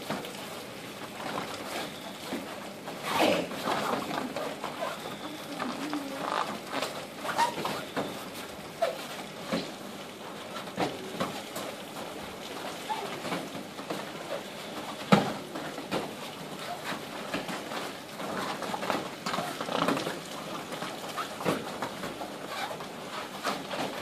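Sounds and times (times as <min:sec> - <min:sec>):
feet thudding and shuffling on mats: 0:00.0 - 0:24.0.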